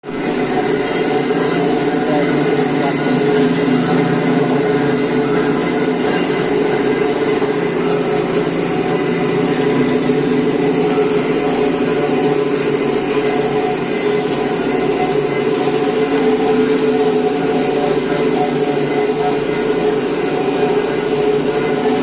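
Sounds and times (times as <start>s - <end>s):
bandsaw humming and whining: 0.0s - 22.0s.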